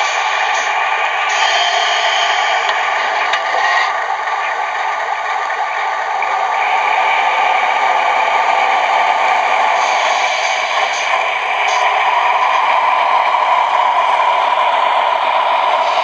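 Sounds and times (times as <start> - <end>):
diesel engine sound from small speaker: 0.0 - 16.0.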